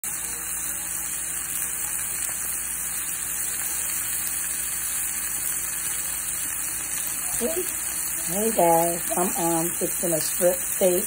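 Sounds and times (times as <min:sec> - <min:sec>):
steak sizzling in a skillet: 0:00.0 - 0:11.0.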